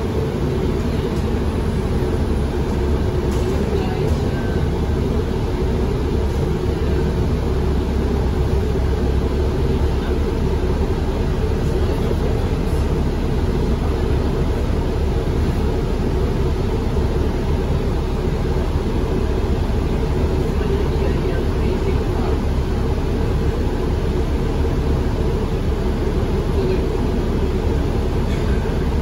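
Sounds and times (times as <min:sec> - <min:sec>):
bus cabin low rumble: 0:00.0 - 0:29.0.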